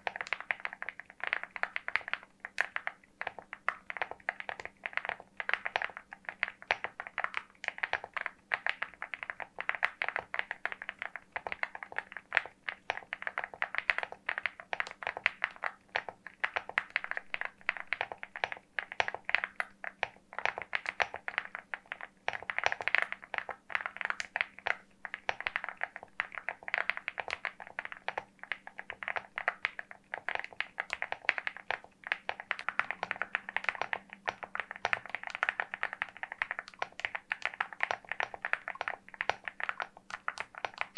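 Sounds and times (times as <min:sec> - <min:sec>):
faint steady hum: 0:00.0 - 0:40.9
mechanical keyboard typing: 0:00.0 - 0:40.9.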